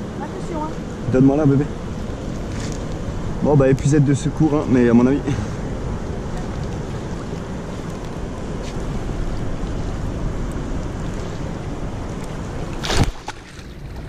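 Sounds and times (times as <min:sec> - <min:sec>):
wind rumble on microphone: 0:00.0 - 0:14.0
water sloshing and splashing: 0:01.8 - 0:14.0.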